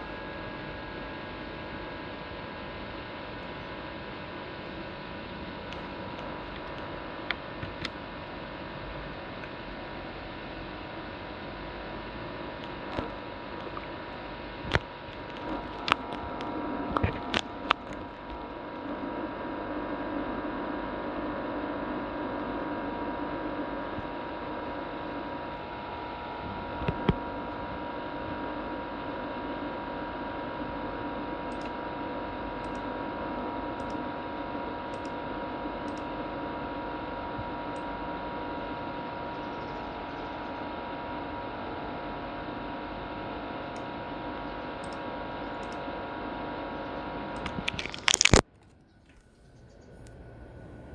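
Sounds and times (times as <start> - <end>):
laptop fan whirring: 0.0 - 50.9.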